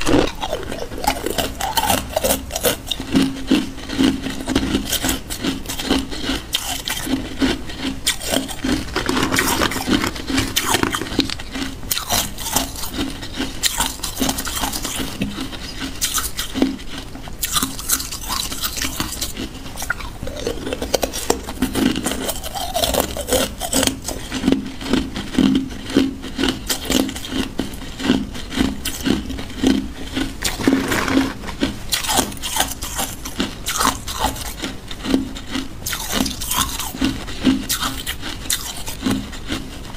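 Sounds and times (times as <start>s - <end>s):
ice crunching while chewing: 0.0s - 39.9s.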